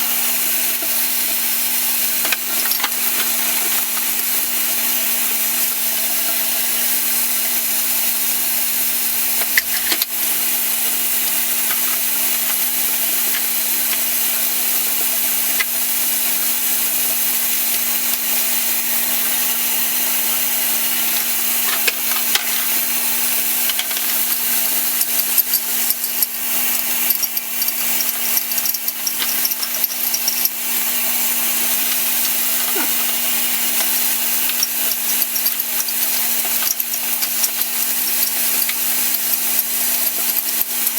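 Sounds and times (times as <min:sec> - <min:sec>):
power tool humming and hissing: 0:00.0 - 0:40.9
scattered clicks and ticks: 0:00.0 - 0:40.9.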